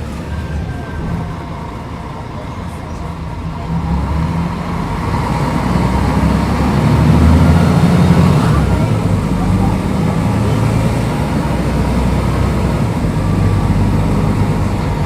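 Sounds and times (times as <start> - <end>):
bus engine accelerating: 0.0 - 15.0.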